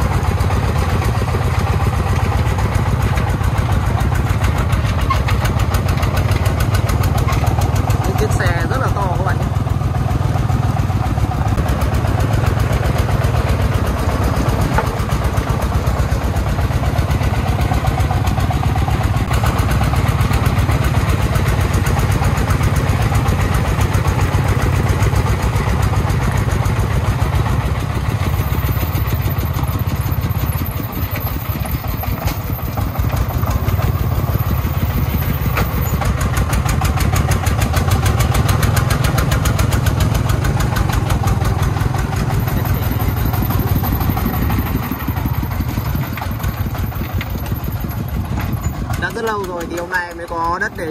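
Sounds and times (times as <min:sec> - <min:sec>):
dump truck diesel engine: 0:00.0 - 0:50.9.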